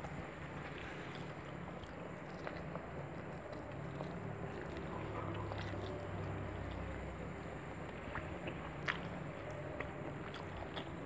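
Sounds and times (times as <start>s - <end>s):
chewing clicks and smacks: 0.6s - 11.0s.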